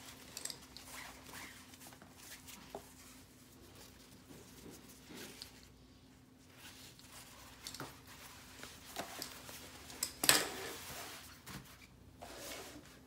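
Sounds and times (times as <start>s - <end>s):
synthetic fabric rustling: 0.0s - 13.0s.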